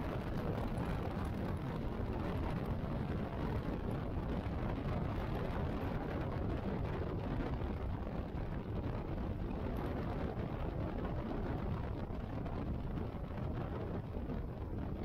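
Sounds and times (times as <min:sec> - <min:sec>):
wind rush over microphone: 0:00.0 - 0:15.0.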